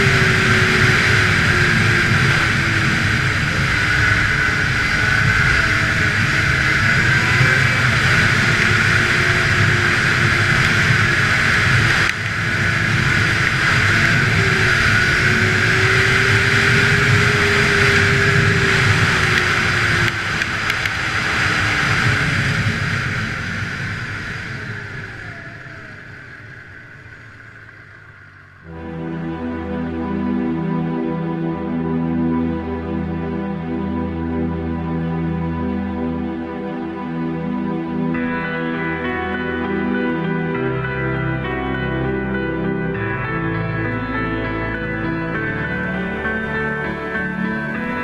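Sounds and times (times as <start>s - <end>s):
snowmobile engine running: 0.0s - 31.0s, 37.2s - 48.0s
wind and track rush: 0.0s - 48.0s.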